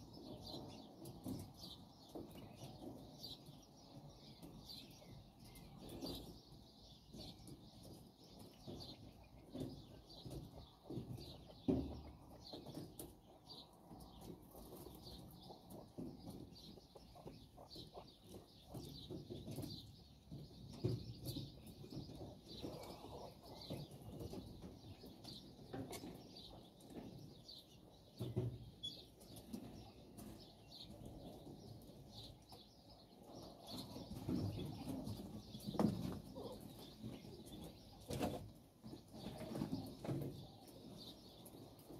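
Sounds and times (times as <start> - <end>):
quail chirping: 0.0 - 41.9.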